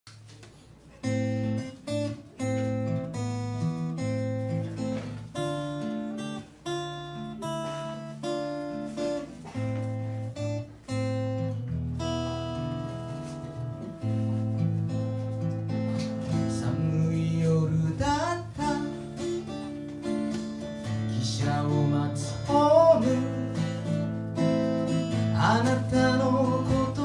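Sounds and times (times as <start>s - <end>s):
acoustic guitar playing chords: 0.1s - 27.0s.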